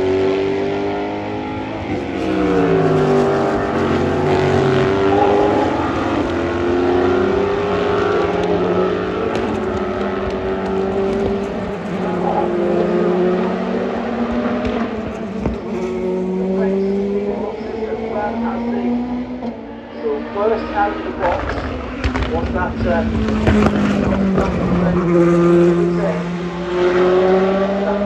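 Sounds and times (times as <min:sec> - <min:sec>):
race car engines running: 0:00.0 - 0:28.0.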